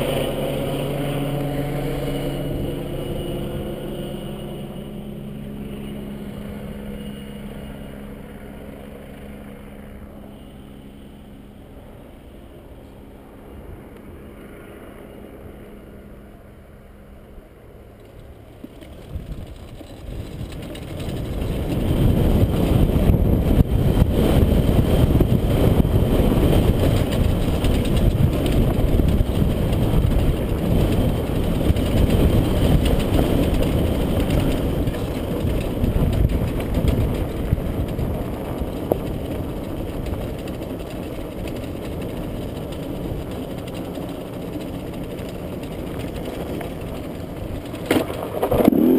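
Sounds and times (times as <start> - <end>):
helicopter rotor and engine: 0.0 - 48.9.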